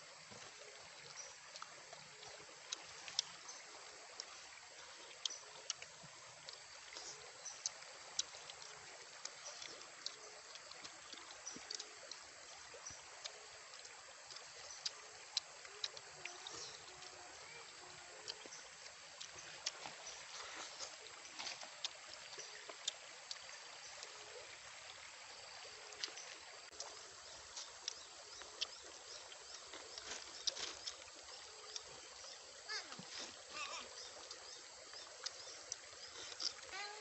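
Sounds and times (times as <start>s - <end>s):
wet chewing and sucking: 1.5s - 17.3s, 18.1s - 24.1s, 26.0s - 31.9s, 35.0s - 37.0s.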